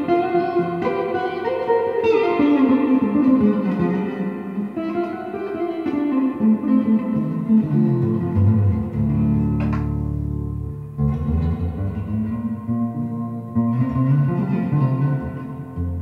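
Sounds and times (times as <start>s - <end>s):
solo electric guitar: 0.0s - 16.0s.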